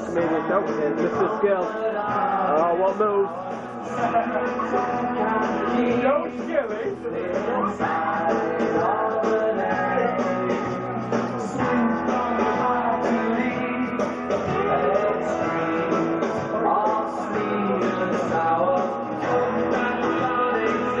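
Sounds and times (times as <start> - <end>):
rock song with singing and guitar: 0.0 - 21.0.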